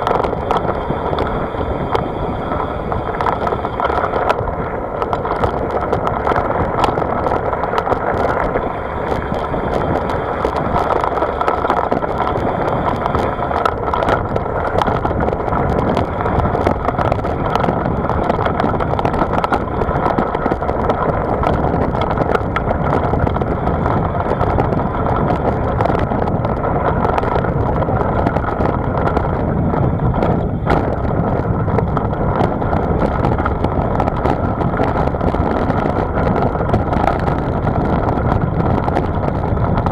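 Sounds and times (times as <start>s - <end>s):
small rattles and knocks: 0.0s - 39.9s
vehicle rolling noise: 0.0s - 39.9s
wind rush: 0.0s - 39.9s.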